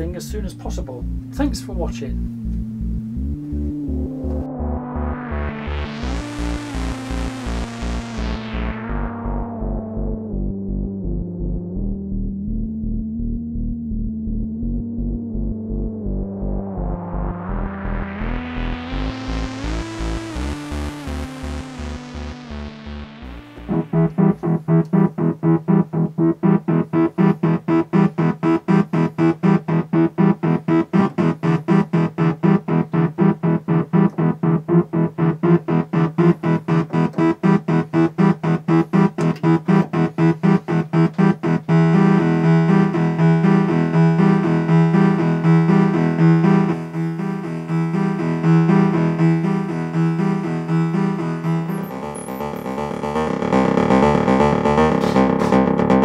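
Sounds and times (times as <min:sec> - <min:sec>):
synthesizer repeating notes: 0:00.0 - 0:56.0.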